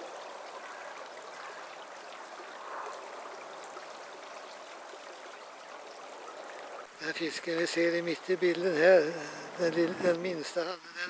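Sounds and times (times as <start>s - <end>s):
stream babbling over gravel: 0.0s - 11.0s.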